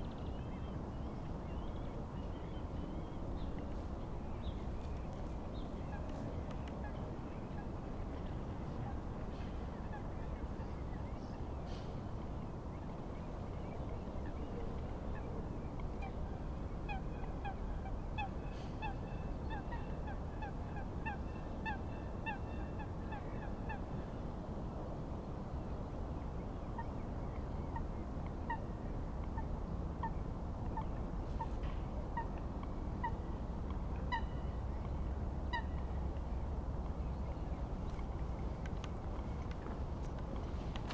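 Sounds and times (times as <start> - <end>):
wind and waves: 0.0 - 40.9.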